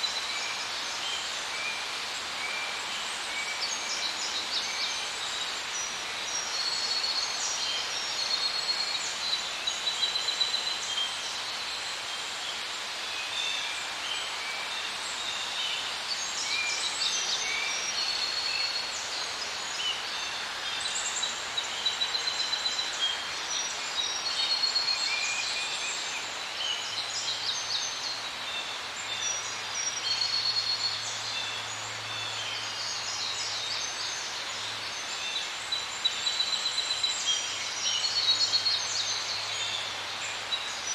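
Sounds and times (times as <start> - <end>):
background hiss: 0.0 - 40.9.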